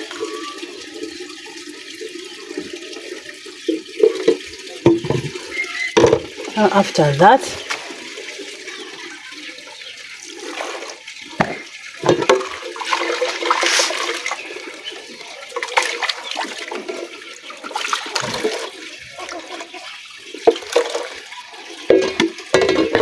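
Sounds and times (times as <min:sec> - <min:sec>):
liquid pouring and splashing: 0:00.0 - 0:23.0.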